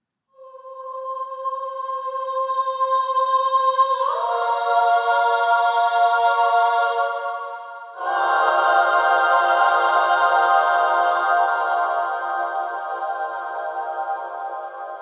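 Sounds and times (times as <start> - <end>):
female choir singing a cappella: 0.3 - 15.0.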